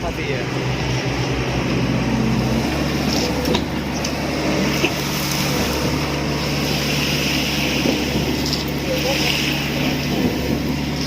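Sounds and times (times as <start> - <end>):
machinery engine running: 0.0 - 11.0.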